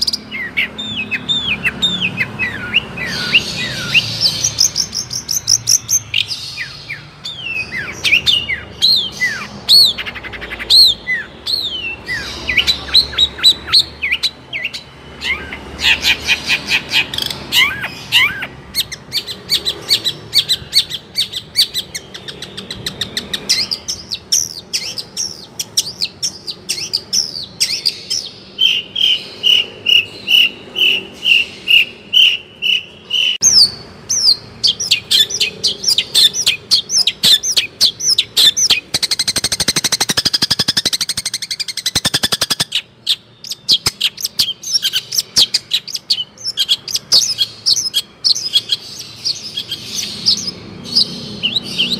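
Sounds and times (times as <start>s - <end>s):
bird singing chirps and whistles: 0.0s - 51.9s.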